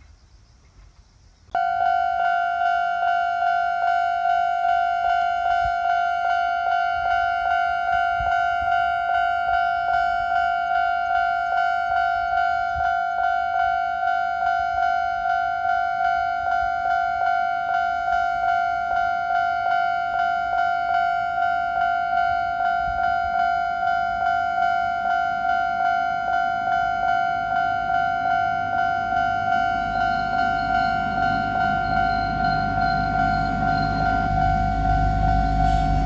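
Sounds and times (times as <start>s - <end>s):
level crossing electronic bell: 1.6s - 36.0s.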